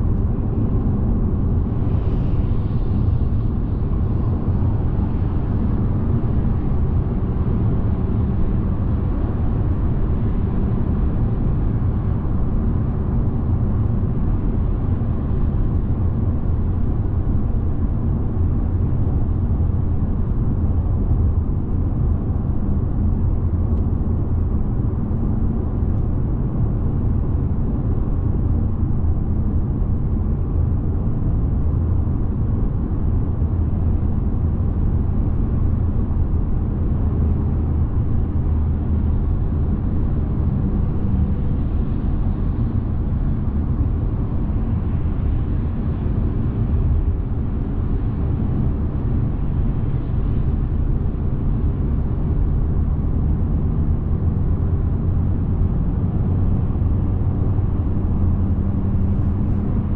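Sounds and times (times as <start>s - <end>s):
car driving on motorway: 0.0s - 59.9s.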